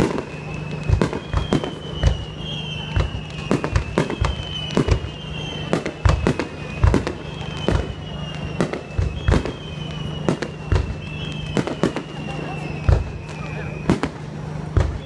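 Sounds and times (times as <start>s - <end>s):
falling fireworks whistles: 0.0s - 15.0s
fireworks booms and cracks: 0.0s - 15.0s.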